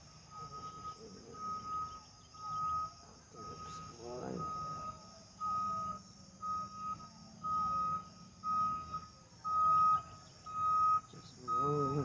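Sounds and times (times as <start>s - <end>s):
vehicle back-up alarm beeping: 0.0s - 12.0s.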